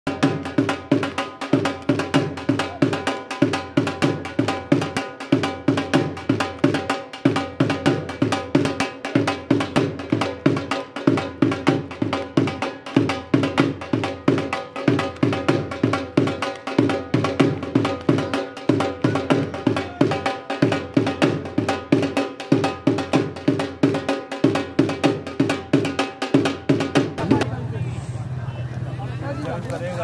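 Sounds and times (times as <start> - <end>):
fast drum beat: 0.1 - 27.5.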